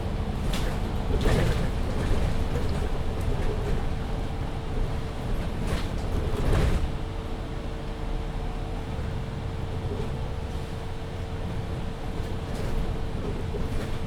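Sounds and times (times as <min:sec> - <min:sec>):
bus engine low rumble: 0:00.0 - 0:14.0.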